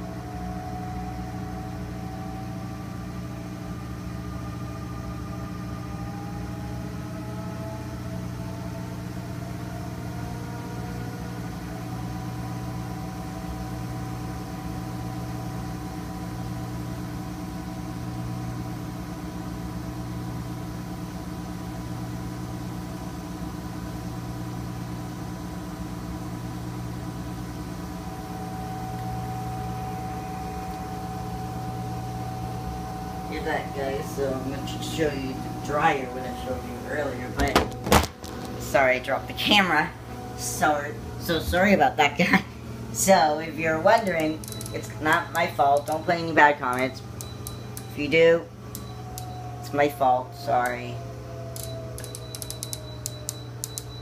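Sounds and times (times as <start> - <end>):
washing machine spin cycle: 0.0 - 54.0.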